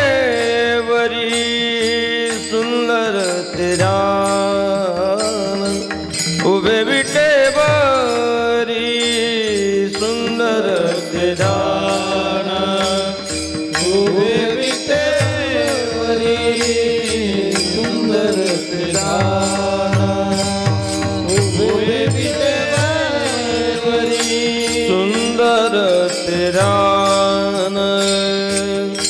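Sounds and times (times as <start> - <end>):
man singing devotional melismas: 0.0 - 29.0
percussion strikes: 0.0 - 29.0.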